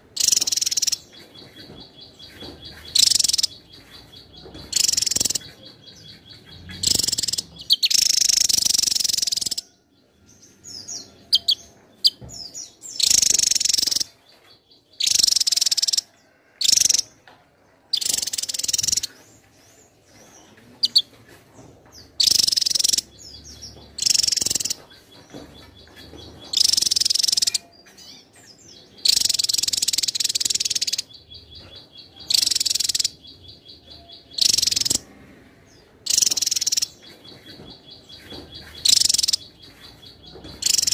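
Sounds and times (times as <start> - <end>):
bird singing rapid song bursts: 0.0 - 9.8, 10.5 - 17.2, 17.9 - 19.2, 22.2 - 40.9.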